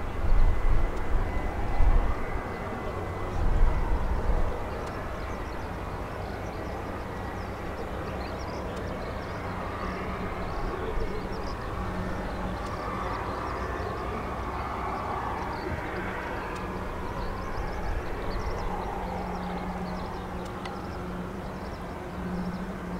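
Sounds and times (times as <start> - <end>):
distant jet engines rumbling: 0.0 - 22.9.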